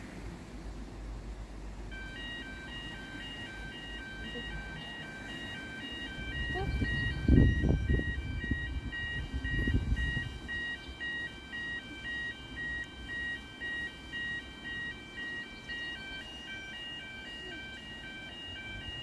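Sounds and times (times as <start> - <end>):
electronic two-tone warning signal: 1.9 - 19.0.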